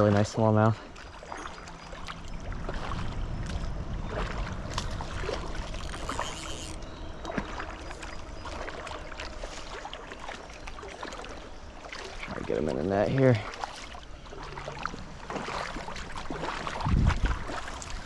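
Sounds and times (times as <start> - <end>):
creek water splashing: 0.0 - 18.0.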